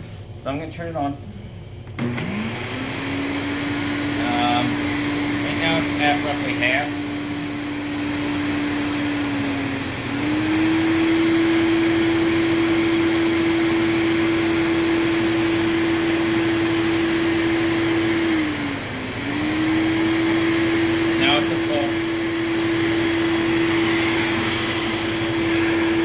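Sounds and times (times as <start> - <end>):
vacuum cleaner motor whining: 1.9 - 26.0.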